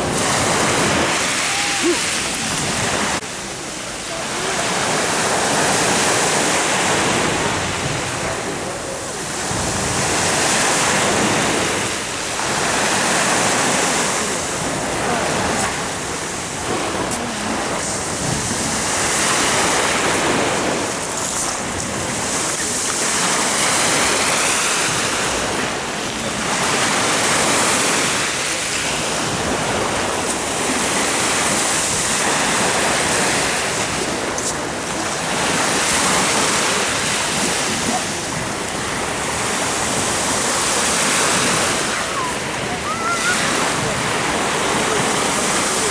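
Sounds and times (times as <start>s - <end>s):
sea waves washing onto shore: 0.0s - 45.9s.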